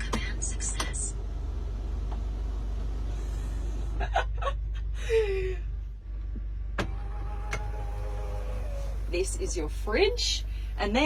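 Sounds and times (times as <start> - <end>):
low cabin hum: 0.0 - 11.0.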